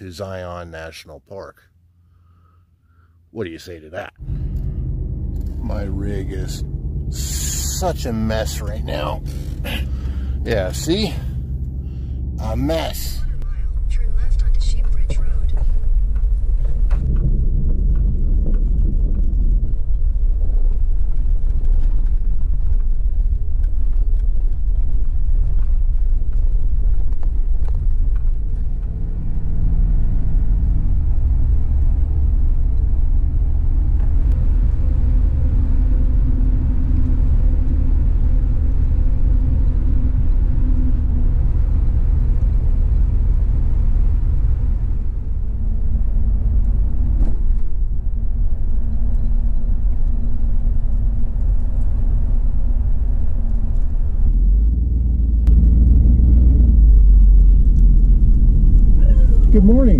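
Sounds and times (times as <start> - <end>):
faint hum shifting in pitch: 1.5 - 21.9, 26.2 - 59.9
road and engine rumble: 1.5 - 59.9.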